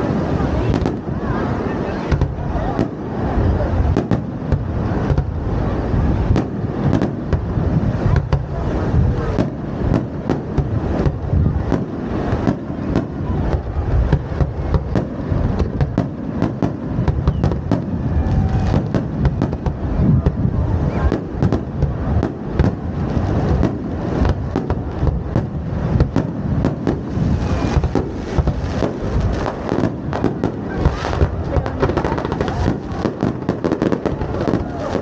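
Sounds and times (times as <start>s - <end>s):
fireworks bangs and pops: 0.0s - 35.0s
heavy low rumble: 0.0s - 35.0s.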